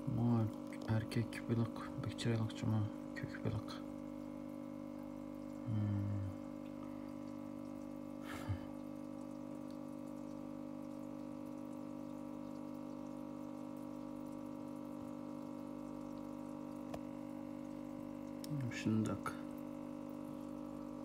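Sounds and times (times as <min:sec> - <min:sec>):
water bubbling: 0:00.0 - 0:18.6, 0:19.4 - 0:21.0.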